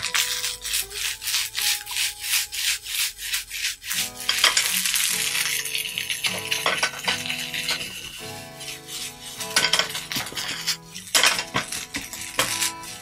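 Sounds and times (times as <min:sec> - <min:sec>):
rice sliding in shaken pan: 0:00.0 - 0:13.0
soft background music: 0:00.0 - 0:13.0
spatula scraping frying pan: 0:00.0 - 0:13.0.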